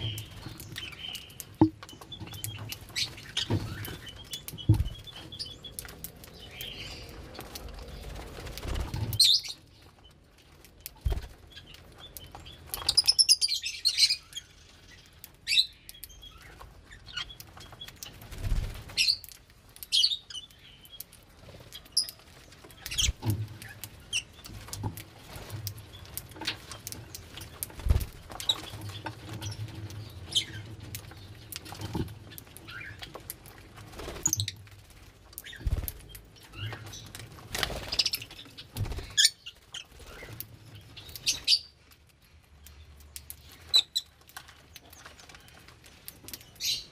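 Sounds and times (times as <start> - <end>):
lovebirds chirping: 0.0 - 34.7, 35.3 - 46.9.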